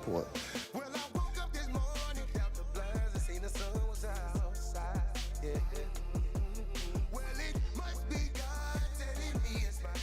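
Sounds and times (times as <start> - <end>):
hip-hop beat: 0.0 - 10.0.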